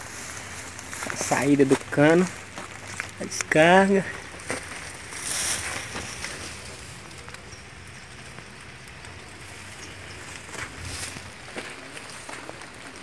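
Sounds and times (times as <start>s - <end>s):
faint outdoor hiss: 0.0s - 13.0s
phone rustling through leaves: 0.0s - 13.0s.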